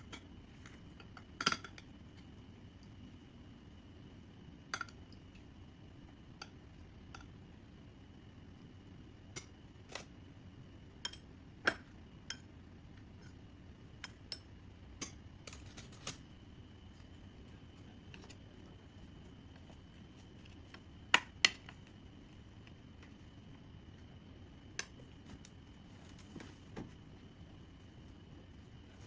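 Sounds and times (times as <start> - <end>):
faint background hum: 0.0 - 29.0.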